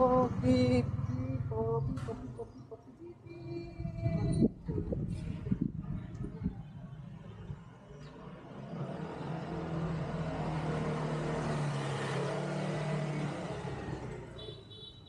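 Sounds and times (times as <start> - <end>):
road noise: 0.0 - 15.0
vehicle engine hum: 0.0 - 15.0.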